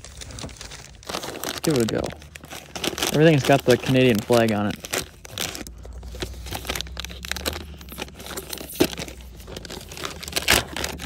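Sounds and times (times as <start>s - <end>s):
plastic pouch crinkling and tearing: 0.0s - 11.0s.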